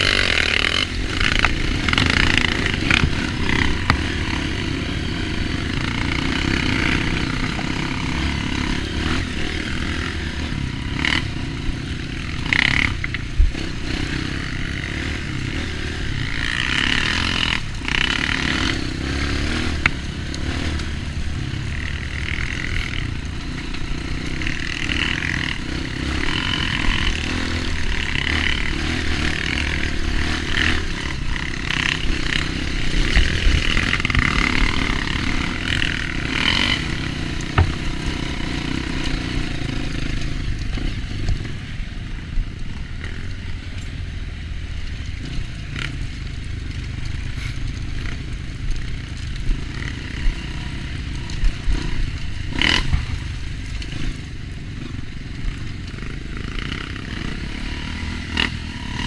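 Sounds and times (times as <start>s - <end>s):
dirt bike engine revving: 0.0s - 43.8s, 44.8s - 59.0s.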